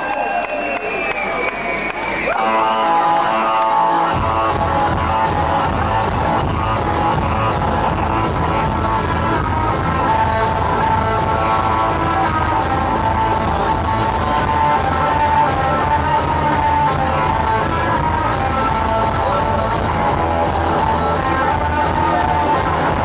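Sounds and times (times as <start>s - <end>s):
distorted electric guitars: 2.2s - 23.0s
steady drum beat: 4.1s - 23.0s.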